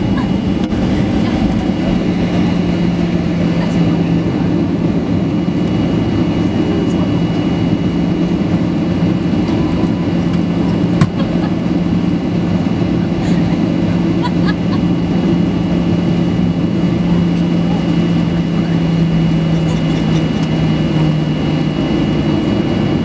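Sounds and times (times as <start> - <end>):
airplane cabin engine hum: 0.0 - 23.0.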